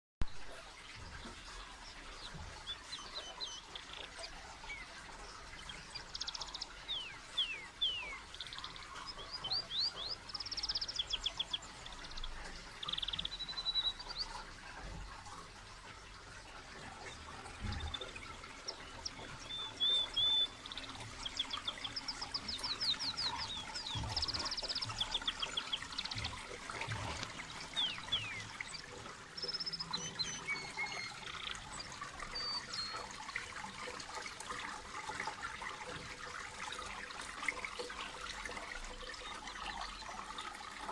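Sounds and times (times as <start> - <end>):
water trickling down fountain: 0.3 - 40.9
small birds chirping: 0.8 - 35.3.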